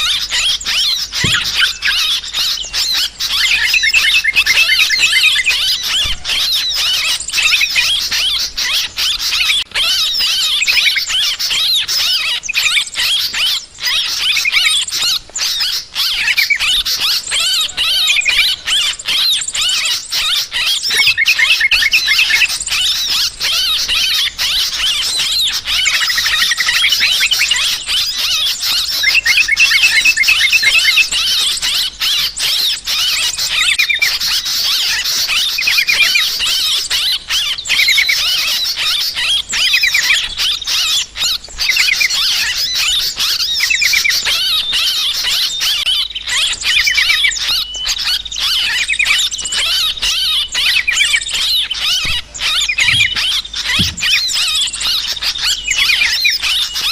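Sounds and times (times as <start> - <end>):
flock of birds chattering: 0.0 - 56.9.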